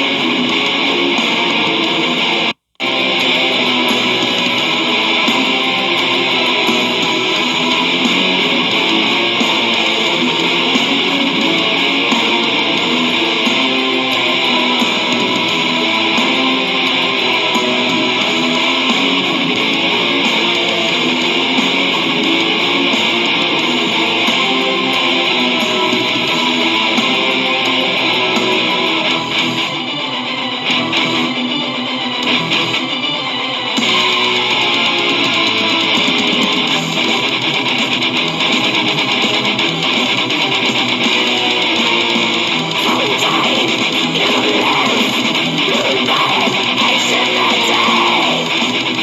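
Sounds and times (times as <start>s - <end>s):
distorted electric guitars: 0.0s - 49.0s.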